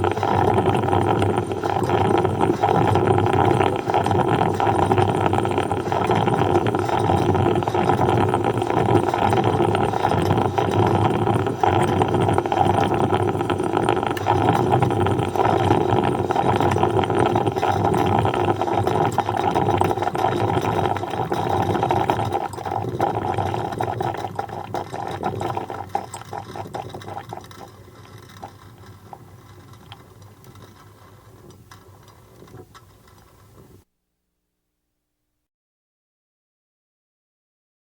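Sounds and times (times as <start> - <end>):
coffee percolator bubbling: 0.0 - 33.9.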